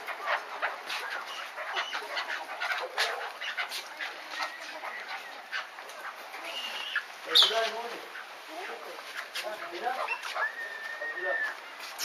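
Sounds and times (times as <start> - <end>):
partridges chirping and clucking: 0.0 - 12.0.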